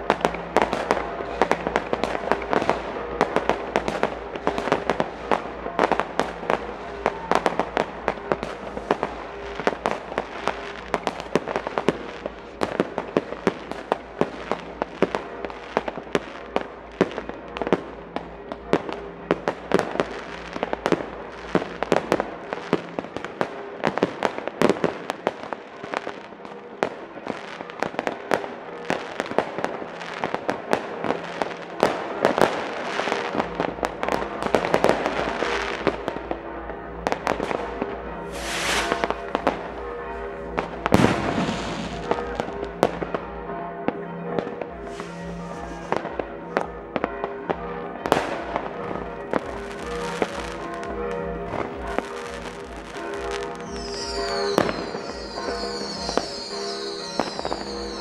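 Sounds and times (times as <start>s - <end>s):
fireworks and firecrackers banging: 0.0s - 58.0s.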